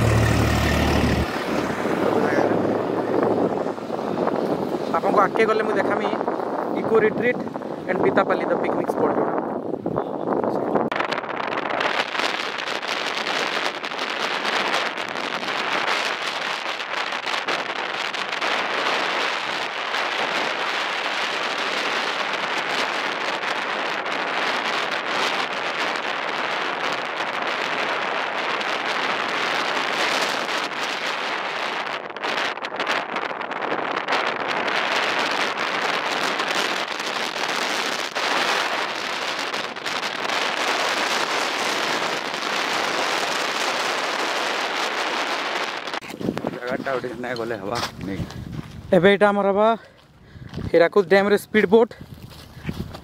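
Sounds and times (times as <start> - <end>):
wind noise on microphone: 0.0 - 53.0.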